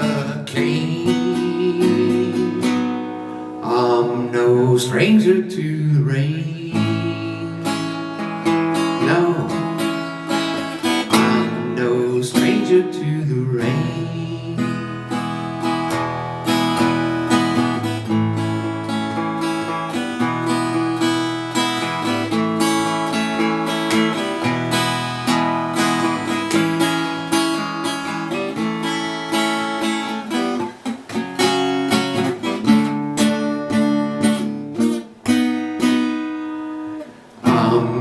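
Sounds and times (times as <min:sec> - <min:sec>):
acoustic guitar strumming chords: 0:00.0 - 0:38.0.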